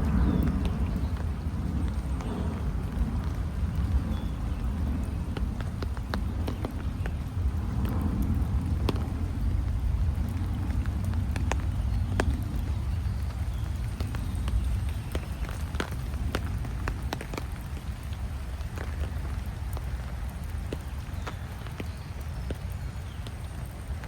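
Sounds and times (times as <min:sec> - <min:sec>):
raindrops ticking: 0:00.0 - 0:24.0.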